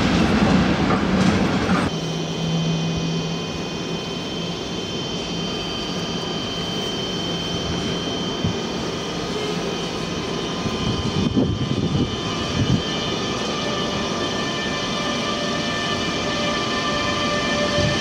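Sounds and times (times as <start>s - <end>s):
steady whining tones: 0.0s - 18.0s
train coaches rumbling: 0.0s - 18.0s.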